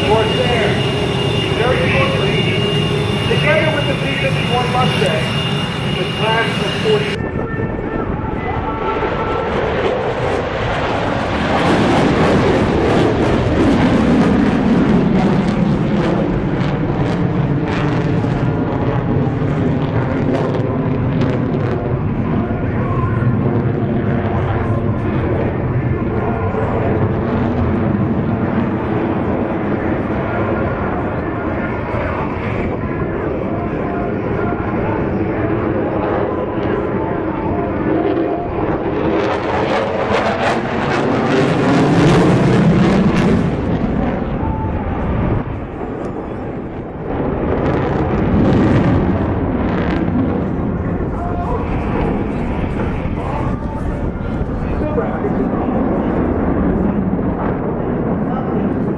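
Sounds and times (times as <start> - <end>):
aircraft engine noise: 0.0 - 58.9.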